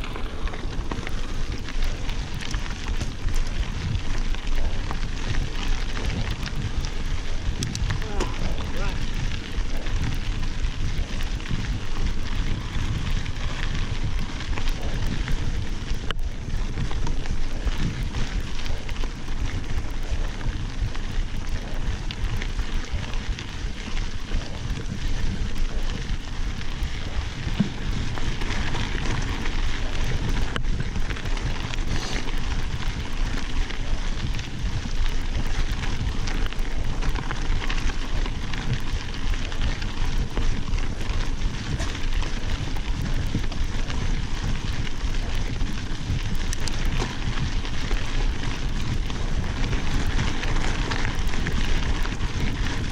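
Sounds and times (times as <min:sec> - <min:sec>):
bike tyres crackling on gravel: 0:00.0 - 0:52.9
wind rumbling on microphone: 0:00.0 - 0:52.9.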